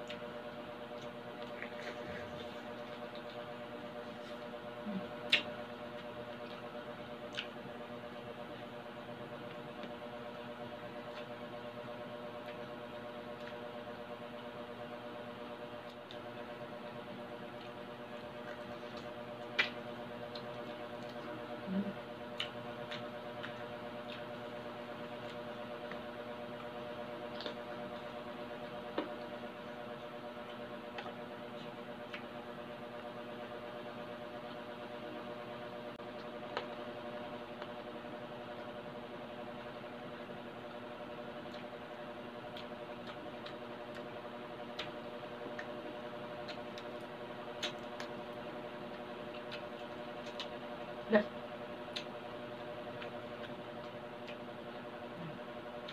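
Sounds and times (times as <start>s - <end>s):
chewing crunchy food: 0.0s - 55.9s
steady background hum: 0.0s - 55.9s.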